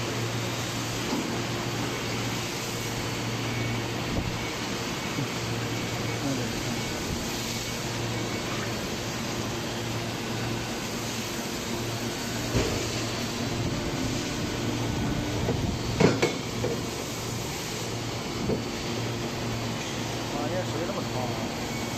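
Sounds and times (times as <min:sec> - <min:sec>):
factory machinery hum: 0:00.0 - 0:21.9.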